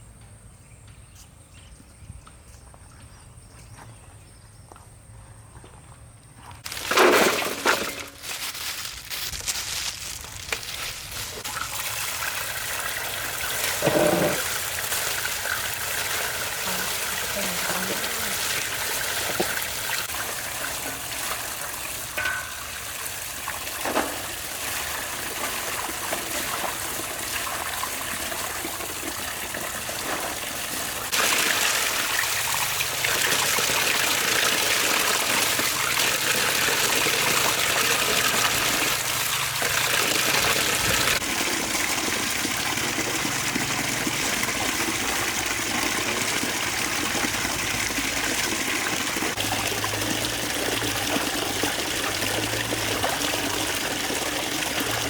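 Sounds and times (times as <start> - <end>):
water running: 10.0 - 55.0.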